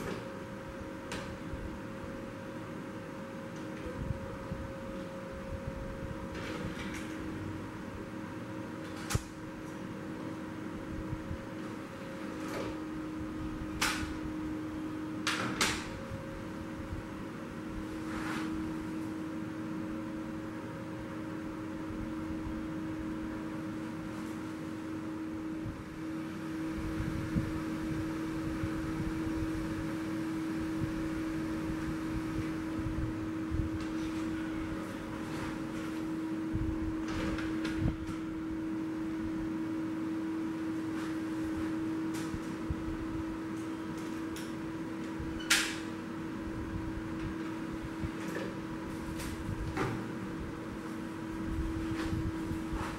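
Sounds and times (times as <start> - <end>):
computer fan hum: 0.0 - 52.9.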